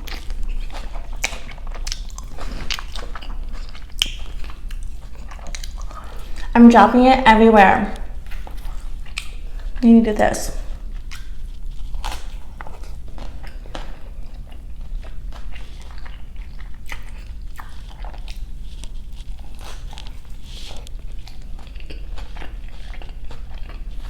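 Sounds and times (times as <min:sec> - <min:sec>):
biting and chewing food: 0:00.0 - 0:06.5, 0:07.9 - 0:09.8, 0:10.7 - 0:24.0.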